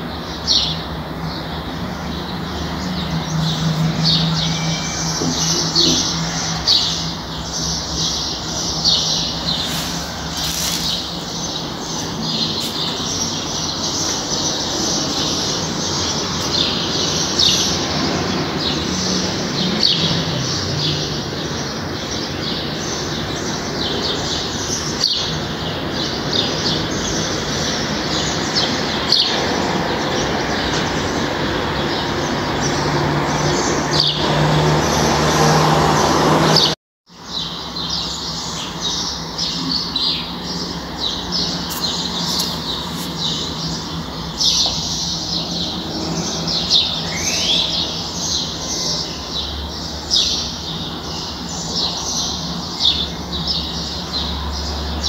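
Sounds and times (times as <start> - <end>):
small birds chirping: 0.0 - 35.5, 36.5 - 55.0.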